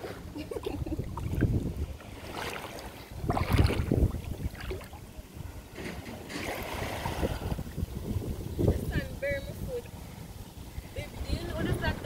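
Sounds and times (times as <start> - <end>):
seawater sloshing around wading legs: 0.0 - 12.0
wind buffeting microphone: 0.0 - 12.0.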